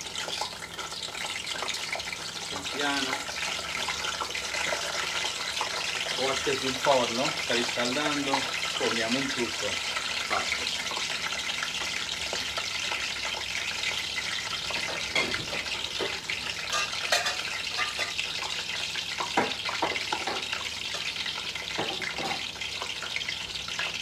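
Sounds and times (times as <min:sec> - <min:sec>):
frying sizzle with pops: 0:00.0 - 0:24.0.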